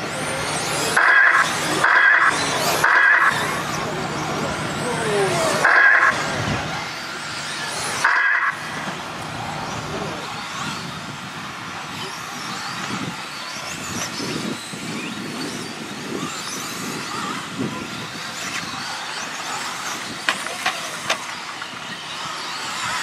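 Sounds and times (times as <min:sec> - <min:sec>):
toy car motors whining: 0:00.0 - 0:23.0.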